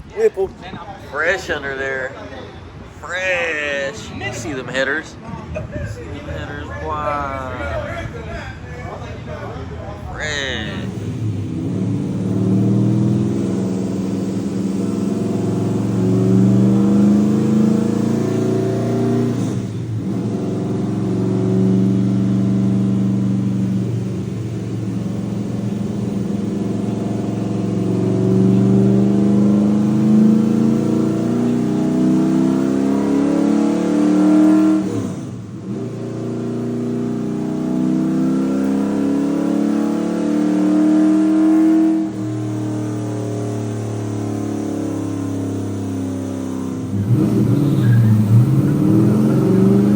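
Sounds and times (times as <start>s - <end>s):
engine revving under load: 2.7s - 49.9s.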